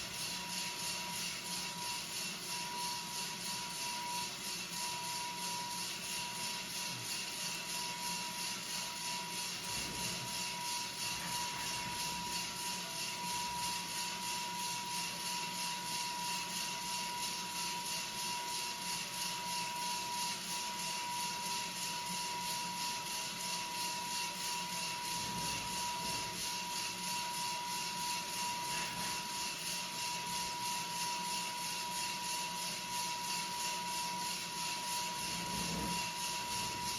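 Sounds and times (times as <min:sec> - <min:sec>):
steady whistling tone: 0:00.0 - 0:06.9, 0:07.6 - 0:36.9
coffee roaster rushing hiss: 0:00.0 - 0:36.9.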